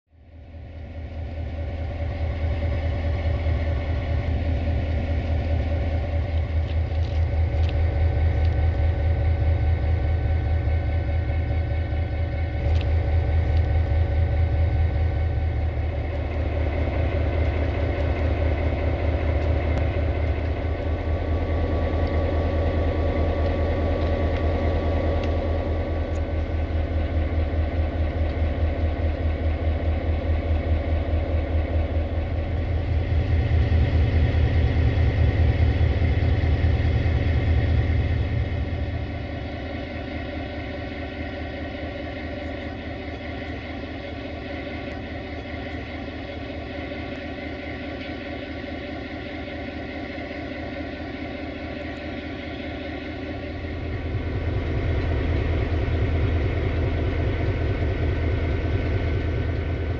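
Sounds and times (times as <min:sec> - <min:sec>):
diesel locomotive engine idling: 0:00.1 - 0:59.9.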